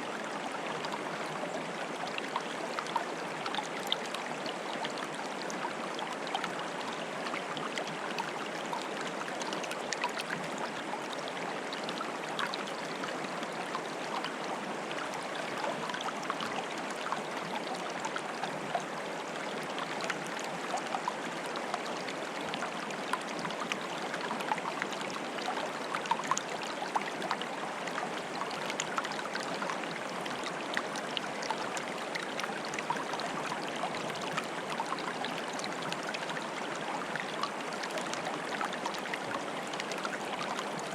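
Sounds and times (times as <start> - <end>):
stream water bubbling: 0.0 - 40.9.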